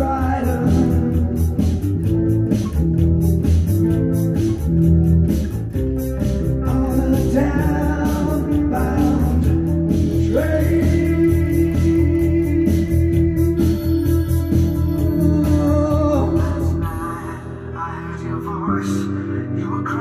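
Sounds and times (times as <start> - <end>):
steady drum beat: 0.0 - 17.3
electric bass guitar: 0.0 - 20.0
guitar: 0.0 - 20.0
rock song with singing: 0.0 - 20.0.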